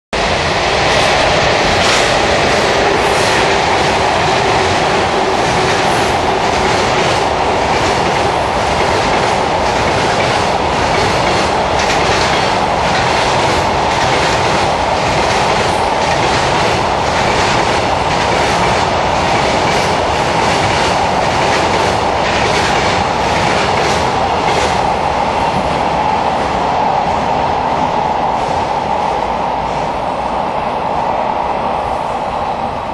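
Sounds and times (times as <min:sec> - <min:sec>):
freight train passing: 0:00.2 - 0:32.9.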